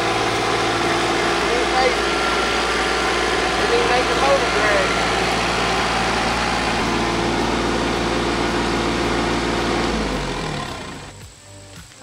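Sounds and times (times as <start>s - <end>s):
tractor diesel engine running: 0.0s - 11.7s.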